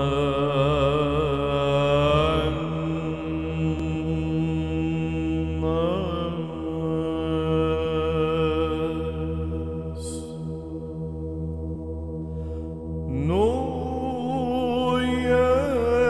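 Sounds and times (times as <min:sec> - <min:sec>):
solo chant singing: 0:00.0 - 0:11.1, 0:13.1 - 0:16.0
held vocal drone: 0:00.0 - 0:16.0.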